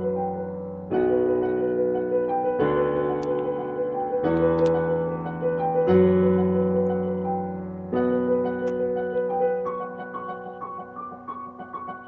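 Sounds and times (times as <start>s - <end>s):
electronic keyboard piano music: 0.0s - 12.0s.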